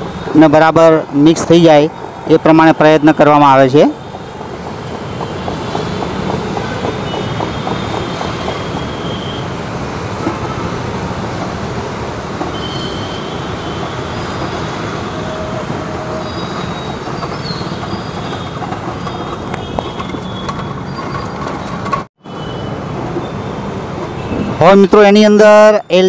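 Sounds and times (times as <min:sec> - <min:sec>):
street noise: 0:00.0 - 0:26.0.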